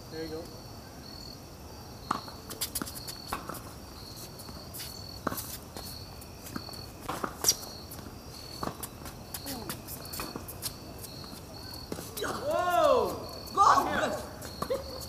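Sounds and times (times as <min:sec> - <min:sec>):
crickets chirping: 0:00.0 - 0:15.0
footsteps and shoe scuffs: 0:02.1 - 0:15.0.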